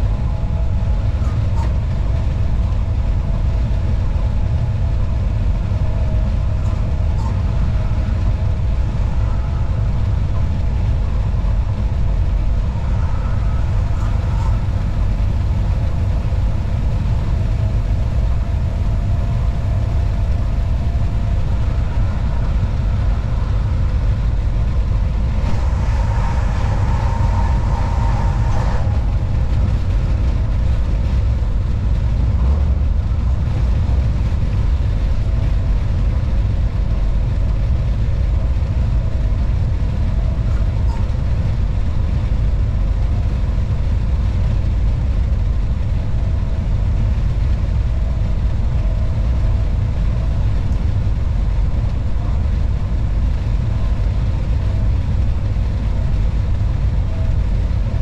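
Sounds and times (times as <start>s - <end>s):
faint steady tones: 0.0s - 58.0s
locomotive cab rumble: 0.0s - 58.0s.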